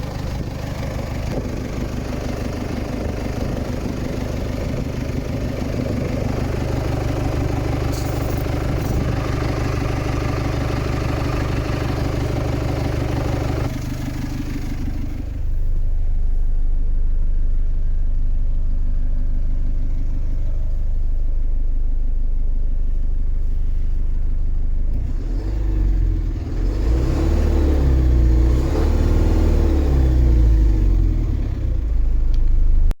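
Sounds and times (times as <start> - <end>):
truck diesel engine idling and revving: 0.0 - 33.0.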